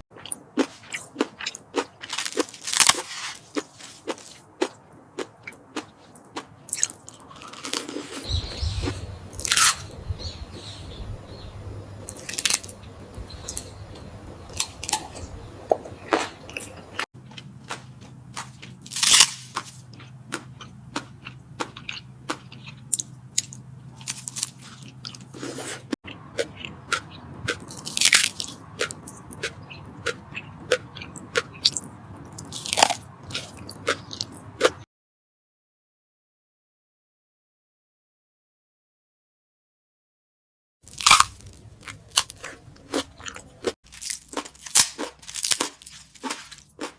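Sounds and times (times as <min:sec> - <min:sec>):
background hum: 0:00.2 - 0:34.8, 0:40.9 - 0:46.9
crunchy bites: 0:00.2 - 0:34.8, 0:40.9 - 0:46.9
wet chewing: 0:00.2 - 0:34.8, 0:40.9 - 0:46.9.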